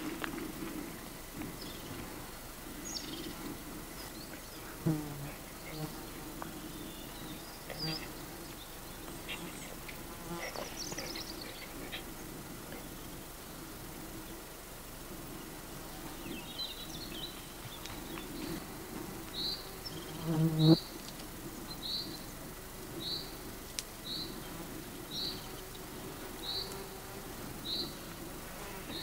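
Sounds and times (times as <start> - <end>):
faint steady hum: 0.0 - 29.0
flying insect buzzing: 0.0 - 29.0.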